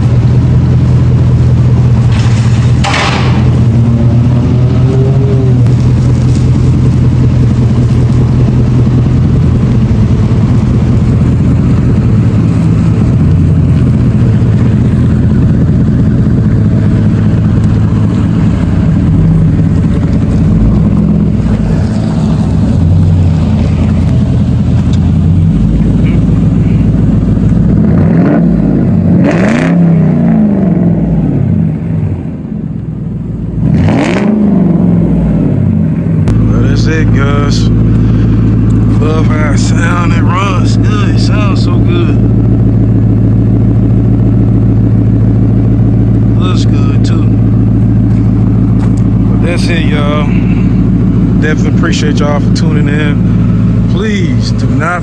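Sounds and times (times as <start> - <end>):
car engine loud exhaust revving: 0.0 - 55.0.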